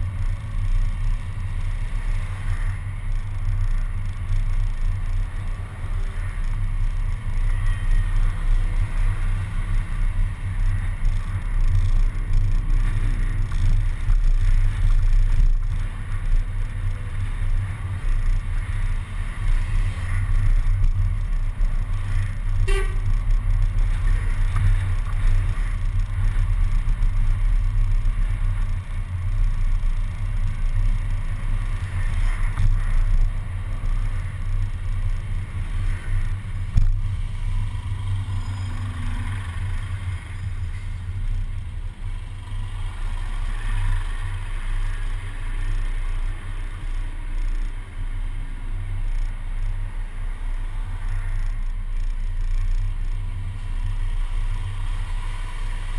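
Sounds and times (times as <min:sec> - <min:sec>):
surrounding traffic: 0:00.0 - 0:55.9
wind and road noise: 0:00.0 - 0:55.9.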